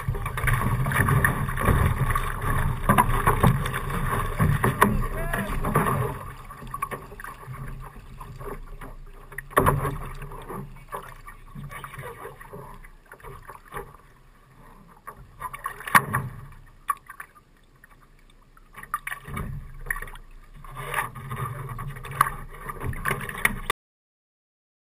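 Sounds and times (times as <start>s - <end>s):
water slapping against boat hull: 0.0s - 14.0s, 15.0s - 17.3s, 18.7s - 23.7s
water splashes: 0.0s - 23.7s.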